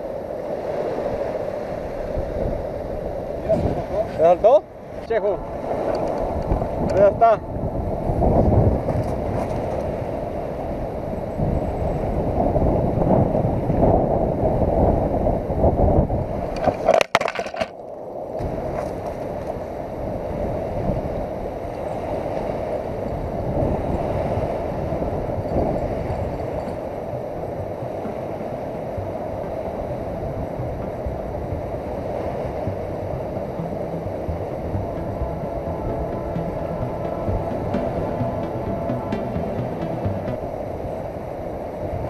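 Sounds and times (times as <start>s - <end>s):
wind buffeting microphone: 0.0s - 17.0s, 18.0s - 42.0s.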